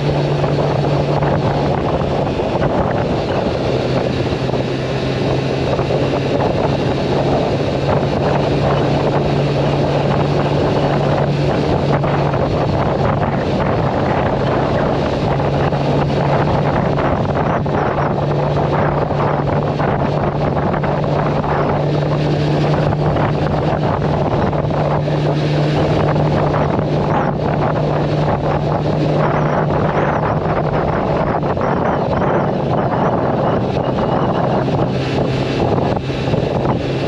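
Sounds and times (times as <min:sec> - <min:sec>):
motorcycle engine running: 0:00.0 - 0:37.0
wind rush on microphone: 0:00.0 - 0:37.0.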